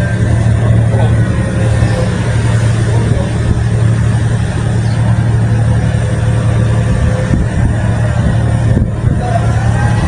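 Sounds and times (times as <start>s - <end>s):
diesel construction machinery running: 0.0s - 10.0s.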